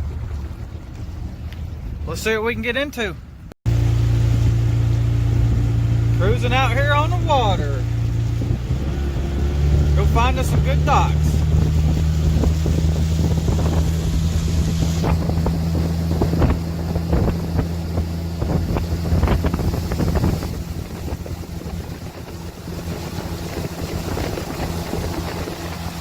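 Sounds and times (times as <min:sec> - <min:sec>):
boat motor running: 0:03.2 - 0:26.0
wind buffeting microphone: 0:03.2 - 0:26.0.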